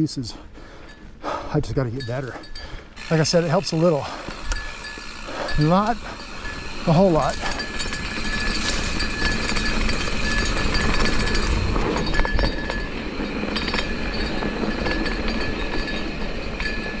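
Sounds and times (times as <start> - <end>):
trail and wind noise: 0.0 - 17.0
bike chain clinking: 2.0 - 17.0.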